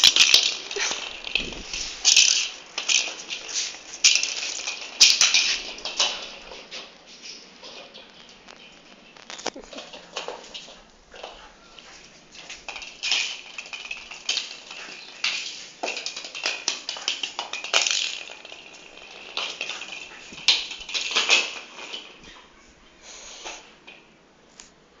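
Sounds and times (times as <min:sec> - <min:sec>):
claws scrabbling on concrete: 0:00.0 - 0:22.4
plastic ball clattering on concrete: 0:00.0 - 0:22.4.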